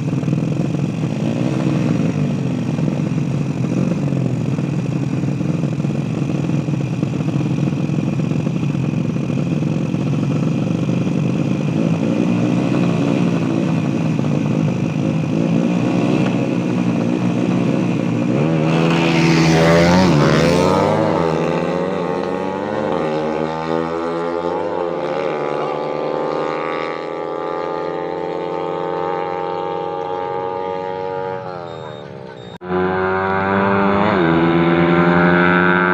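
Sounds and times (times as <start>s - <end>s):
mini motorbike engine revving: 0.0s - 35.9s.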